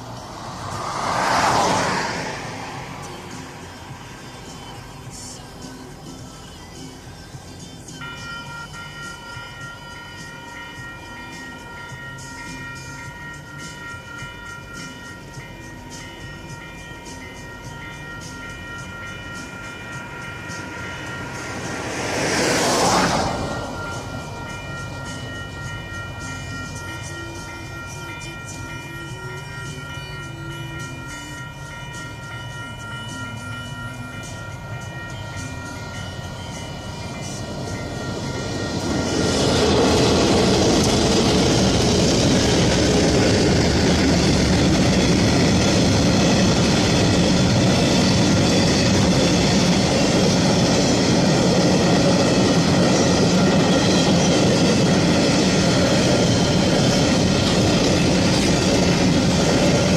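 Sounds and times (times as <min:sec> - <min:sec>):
level crossing warning bells: 0:00.0 - 0:59.9
train passing on rails: 0:00.0 - 0:59.9.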